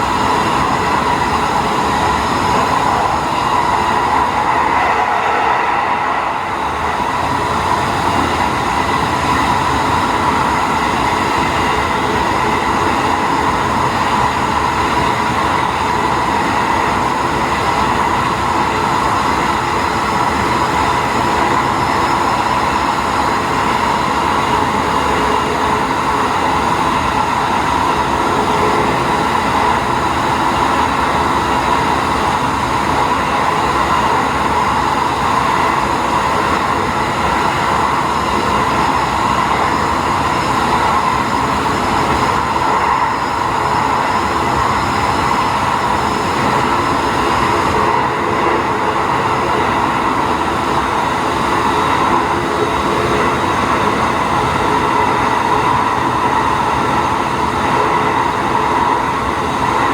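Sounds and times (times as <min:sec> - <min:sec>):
railcar engine drone: 0:00.0 - 0:59.9.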